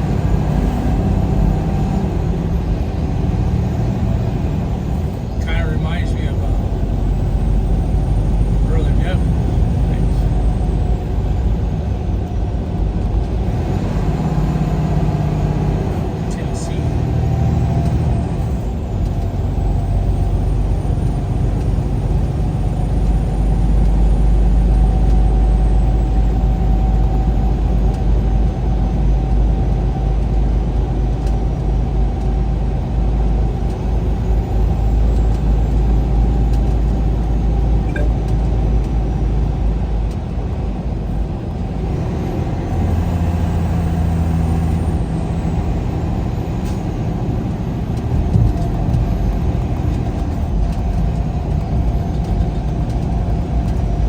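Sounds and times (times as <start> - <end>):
vehicle engine on highway: 0.0 - 54.0.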